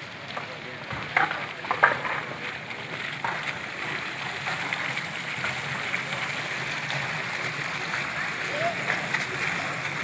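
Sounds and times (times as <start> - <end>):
fountain water splashing on stone: 0.0 - 10.0.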